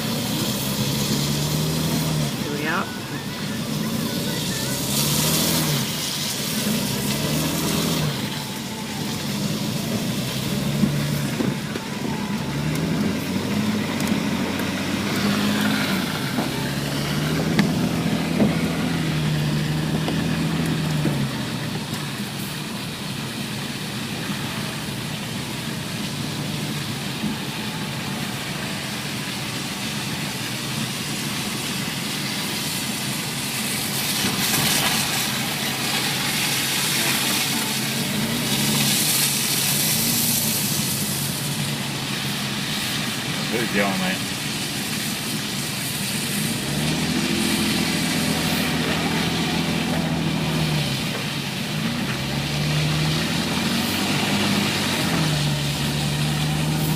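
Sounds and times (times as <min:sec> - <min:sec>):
car engine running: 0:00.0 - 0:56.9.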